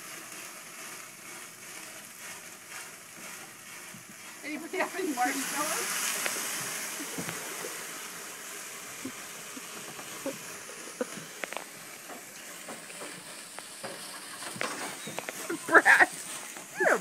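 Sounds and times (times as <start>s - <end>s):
crackles and clicks: 0.0s - 17.0s
fat sizzling: 0.0s - 17.0s
flames hissing: 0.0s - 17.0s.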